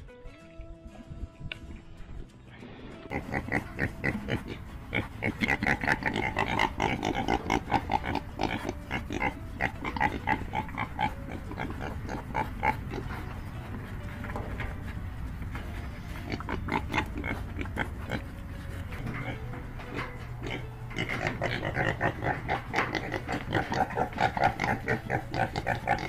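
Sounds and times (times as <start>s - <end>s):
pigs grunting: 3.0s - 26.0s.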